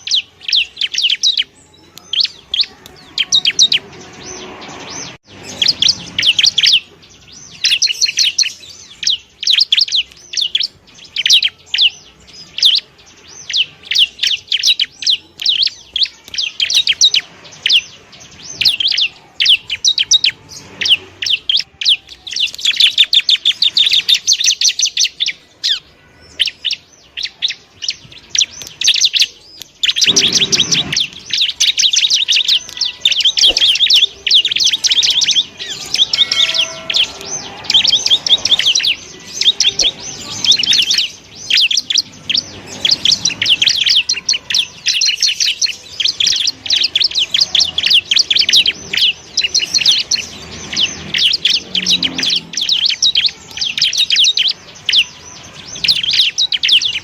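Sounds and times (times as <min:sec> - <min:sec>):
bird singing with rattling trills: 0:00.0 - 0:57.0.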